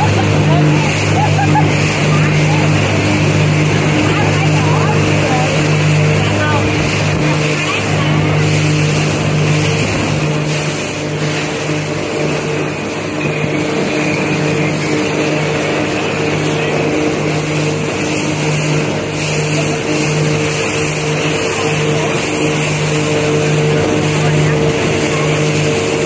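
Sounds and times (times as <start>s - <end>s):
jet boat engine drone: 0.0s - 26.0s
water rushing: 0.0s - 26.0s.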